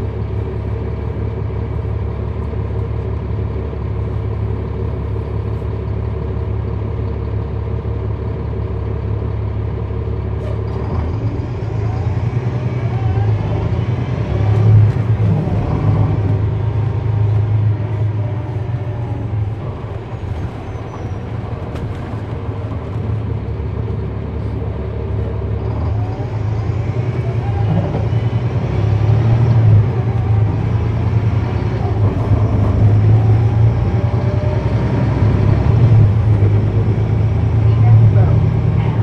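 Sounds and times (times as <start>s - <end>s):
bus diesel engine drone: 0.0s - 39.0s.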